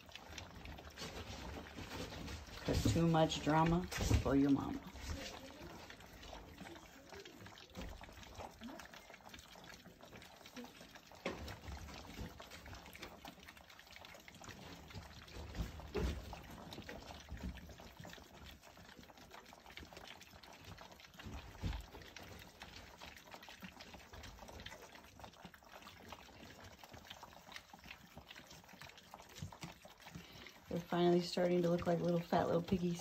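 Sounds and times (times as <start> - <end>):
puppies lapping and chewing: 0.0 - 33.0.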